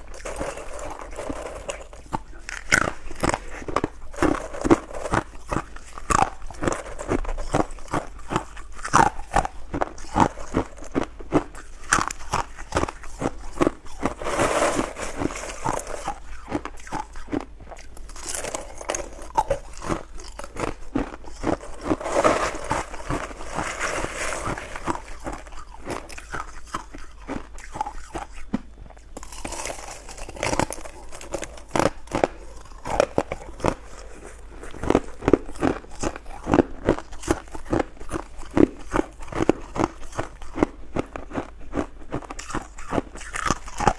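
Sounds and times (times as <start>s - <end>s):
ice crunching being chewed: 0.0s - 43.9s.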